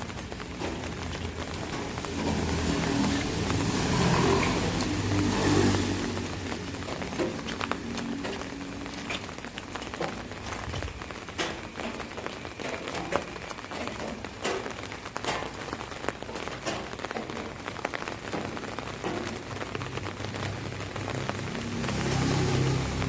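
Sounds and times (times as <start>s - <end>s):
rain pattering on an umbrella: 0.0s - 23.0s.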